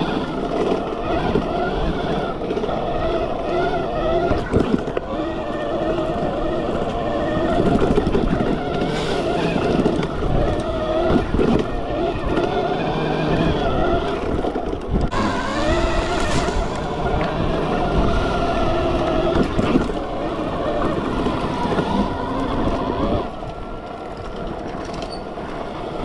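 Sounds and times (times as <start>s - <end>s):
electric motor whining: 0.0s - 24.4s
wind and tyres rumbling: 0.0s - 26.0s.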